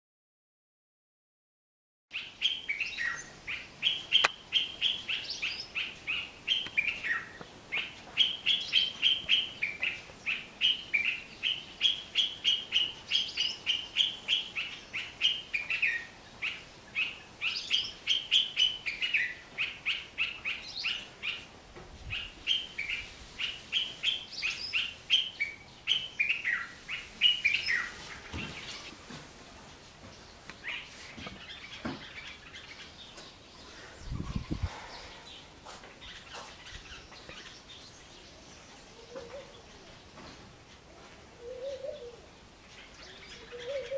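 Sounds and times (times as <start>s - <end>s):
bird song bright chirping notes: 2.1s - 29.0s, 30.1s - 43.9s.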